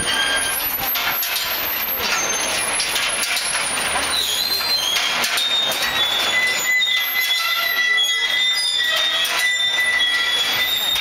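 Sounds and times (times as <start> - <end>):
metal wheels squealing: 0.0 - 11.0
metallic clatter with knocks: 0.0 - 11.0.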